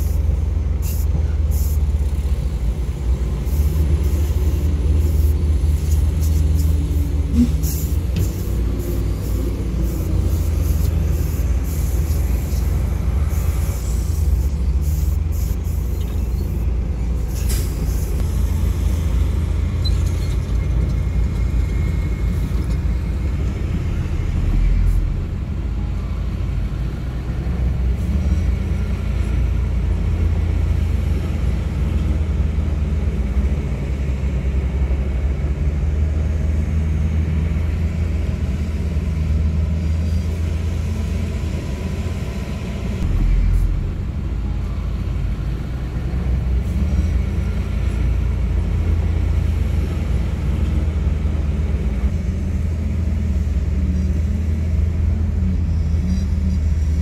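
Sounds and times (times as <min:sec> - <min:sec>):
bulldozer diesel engines rumbling: 0:00.0 - 0:57.0.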